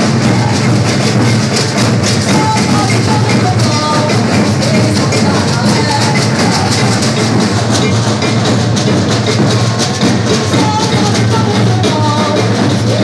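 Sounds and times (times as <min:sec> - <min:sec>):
percussion group drumming: 0:00.0 - 0:13.0.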